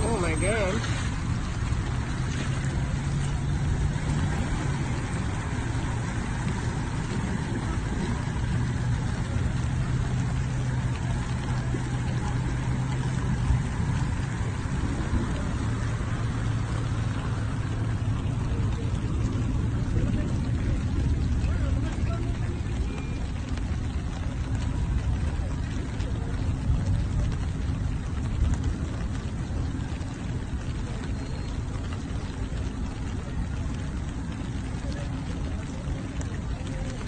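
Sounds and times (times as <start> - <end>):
vehicle engine humming: 0.0 - 37.0
water washing under car: 0.0 - 37.0.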